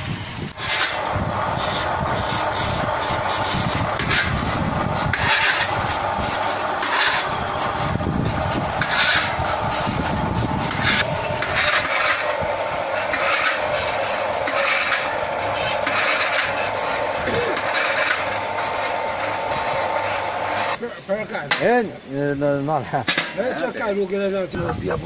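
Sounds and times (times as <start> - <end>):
drilling rig humming: 0.0 - 20.8
harsher drilling noise: 0.0 - 20.8.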